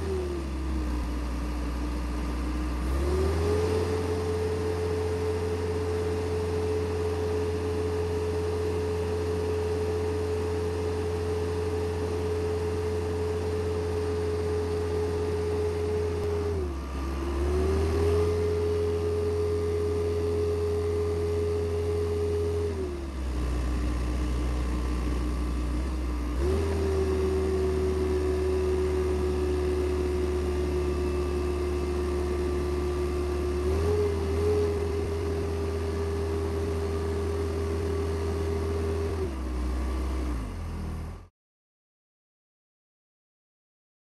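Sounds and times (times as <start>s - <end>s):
diesel engine under hydraulic load: 0.0s - 41.3s.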